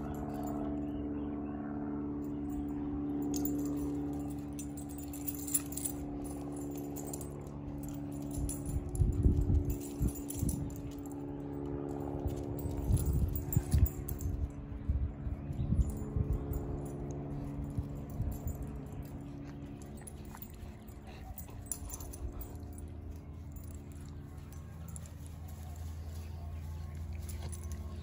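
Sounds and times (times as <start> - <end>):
dog collar tags jingling: 0.0 - 0.9, 2.2 - 28.0
steady low hum: 0.0 - 28.0.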